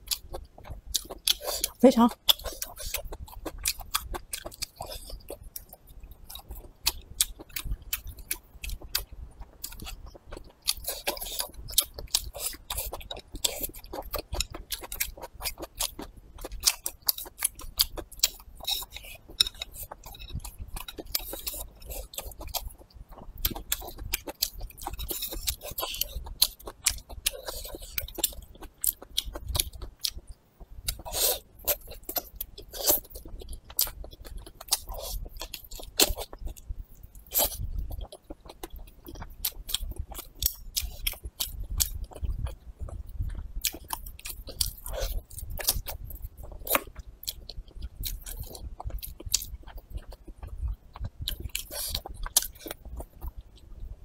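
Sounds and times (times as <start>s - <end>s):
wet chewing and mouth smacks: 0.0s - 54.0s.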